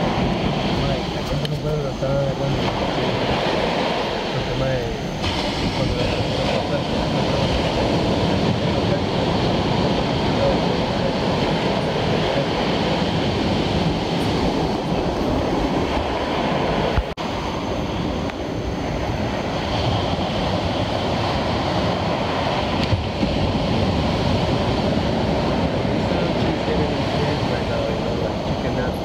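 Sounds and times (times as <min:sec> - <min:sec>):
ocean surf roaring: 0:00.0 - 0:29.0.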